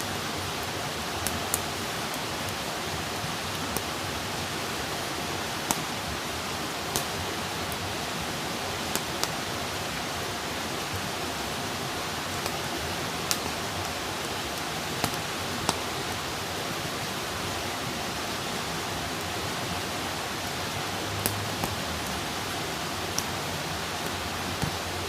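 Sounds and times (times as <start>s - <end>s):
campfire hissing: 0.0s - 25.0s
burning wood crackling and popping: 0.1s - 16.4s, 18.5s - 25.0s.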